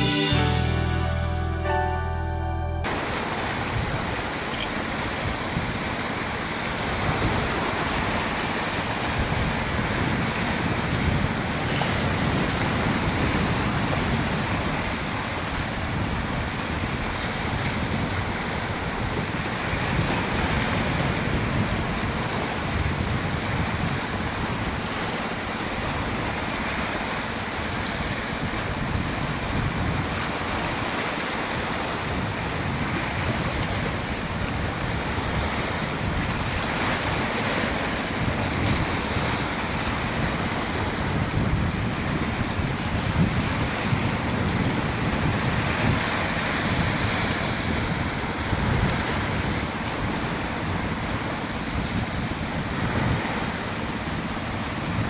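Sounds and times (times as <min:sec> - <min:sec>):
sea surf washing in: 0:00.0 - 0:55.0.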